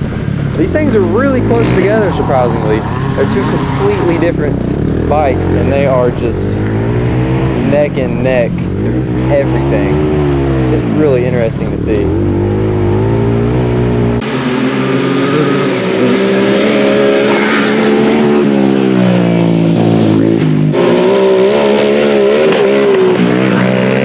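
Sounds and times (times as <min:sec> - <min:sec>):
atv engines revving: 0:00.0 - 0:24.0.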